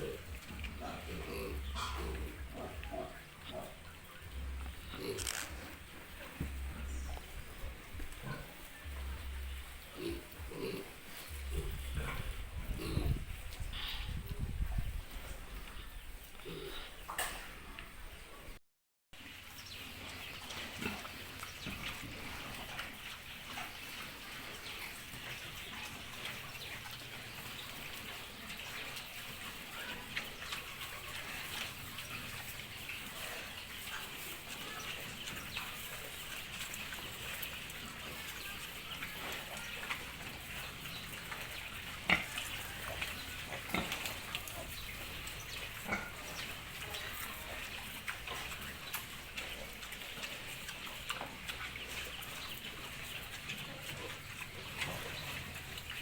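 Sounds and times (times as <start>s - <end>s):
piglets squeaking and grunting: 0.0s - 17.2s, 20.5s - 56.0s.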